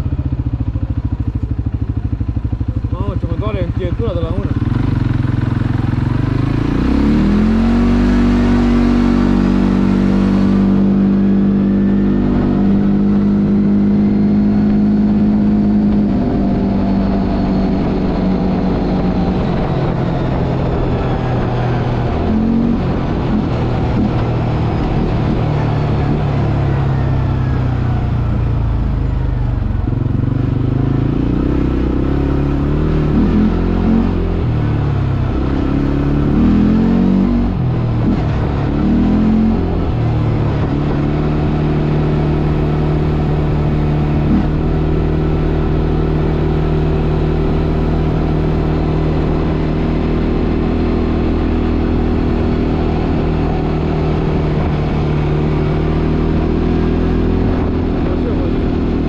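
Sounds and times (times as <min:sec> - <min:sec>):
atv engine accelerating: 0:00.0 - 0:59.0.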